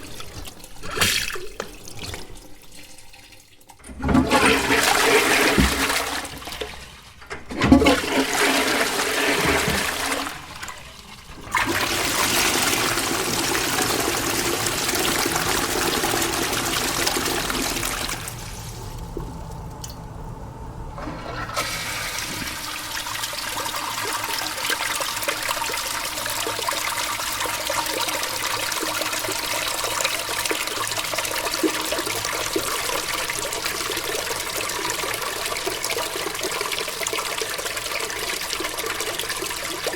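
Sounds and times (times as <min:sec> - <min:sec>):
running water as tank refills: 0:00.0 - 0:39.9
toilet flushing: 0:00.0 - 0:39.9.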